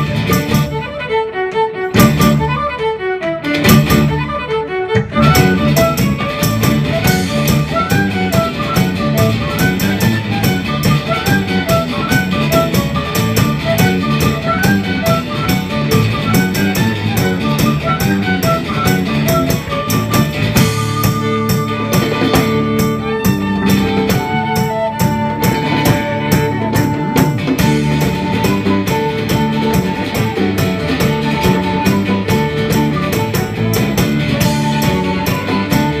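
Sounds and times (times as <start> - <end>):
steady drum beat: 0.0 - 0.9, 1.9 - 2.6, 3.6 - 4.3, 5.0 - 36.0
fiddle playing quick melody: 0.0 - 36.0.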